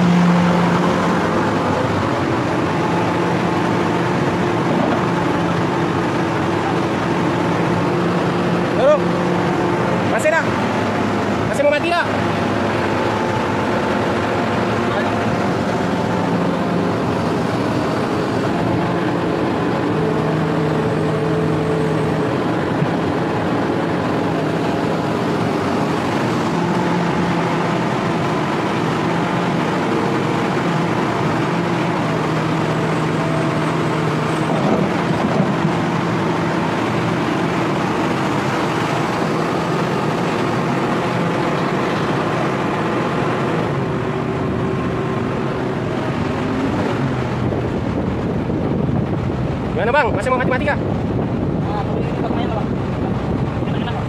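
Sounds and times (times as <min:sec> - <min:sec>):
excavator diesel engine and hydraulics: 0:00.0 - 0:54.0.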